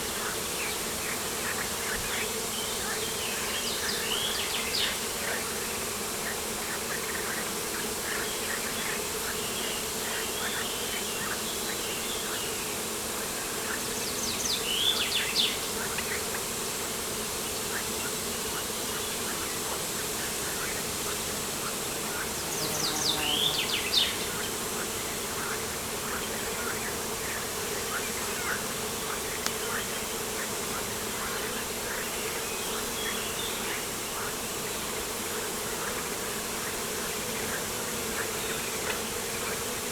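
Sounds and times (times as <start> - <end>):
insect buzz: 0.0 - 39.9.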